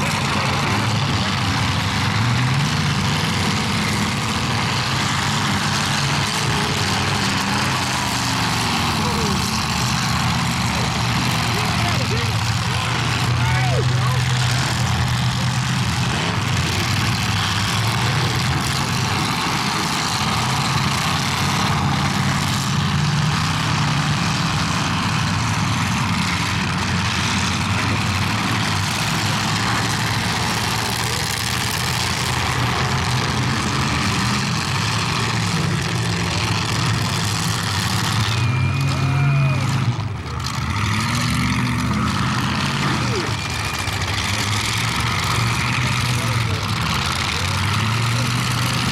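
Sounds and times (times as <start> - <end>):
car engines running and revving: 0.0 - 48.9.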